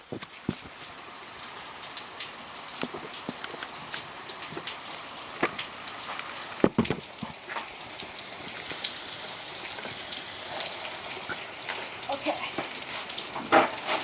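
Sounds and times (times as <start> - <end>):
heavy rain pattering: 0.0 - 14.0.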